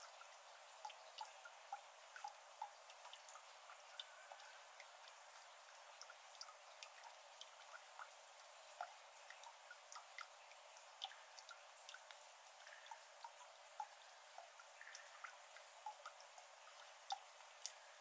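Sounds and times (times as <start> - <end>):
faint steady hiss: 0.0 - 18.0
water drops plinking into water: 0.0 - 18.0.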